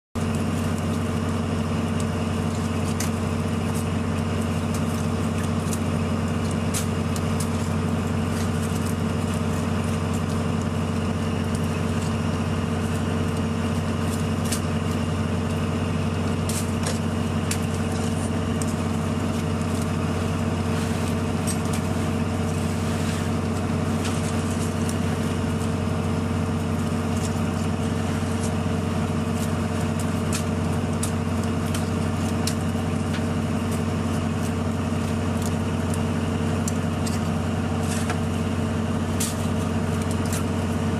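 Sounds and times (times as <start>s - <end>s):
boat engine droning: 0.2s - 40.9s.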